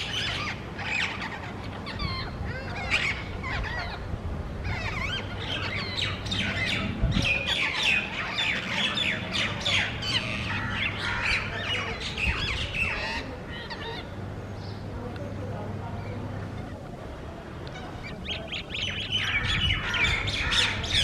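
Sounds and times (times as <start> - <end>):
parakeets squawking: 0.0 - 14.3, 16.4 - 21.0.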